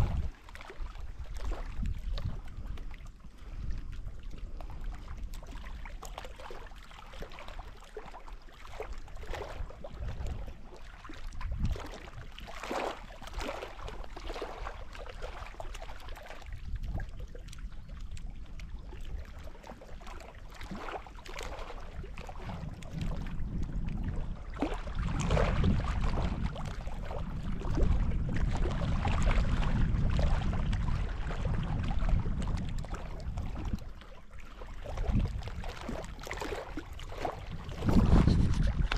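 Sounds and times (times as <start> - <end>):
wind buffeting microphone: 0.0 - 7.8, 8.7 - 15.6, 16.2 - 38.9
waves lapping on rocky shore: 4.4 - 16.8, 18.2 - 38.9.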